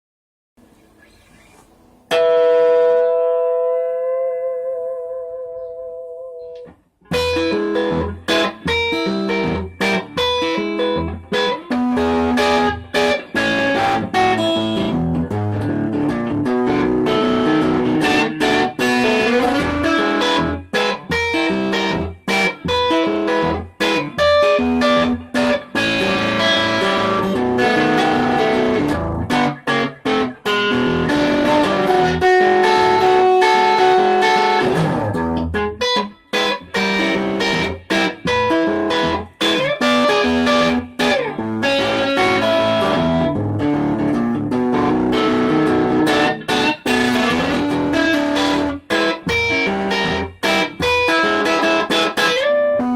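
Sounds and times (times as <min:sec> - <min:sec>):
overdriven electric guitar riffs: 0:00.9 - 0:52.9.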